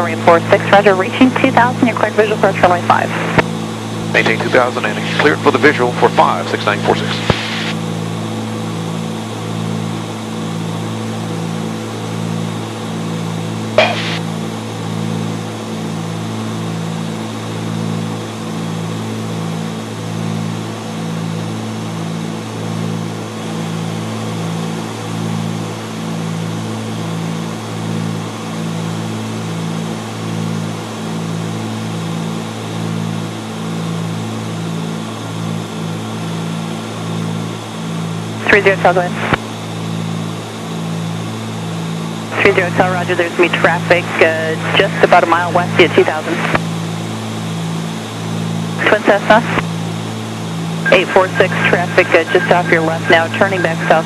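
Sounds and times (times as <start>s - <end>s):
airplane engines droning: 0.0s - 54.0s.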